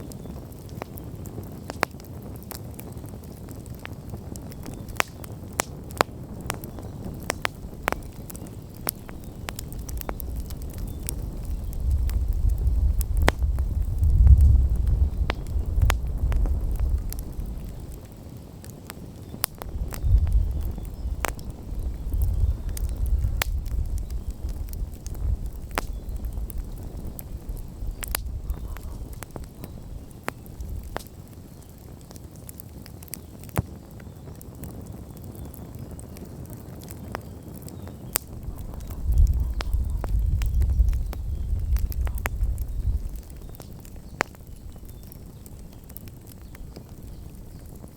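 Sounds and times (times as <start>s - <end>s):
campfire crackling and popping: 0.0s - 47.9s
wind rumble on microphone: 0.0s - 47.9s.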